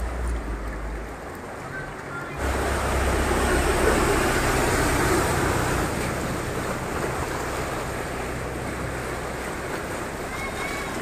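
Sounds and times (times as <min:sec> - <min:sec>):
low engine hum: 0:00.0 - 0:11.0
water splashing and rushing: 0:00.0 - 0:11.0.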